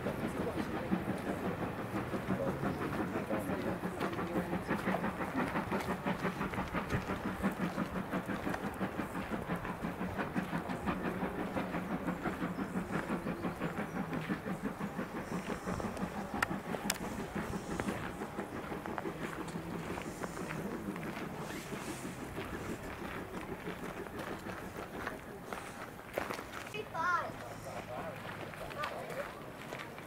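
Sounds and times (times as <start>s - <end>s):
diesel locomotive engine humming: 0.0s - 30.0s.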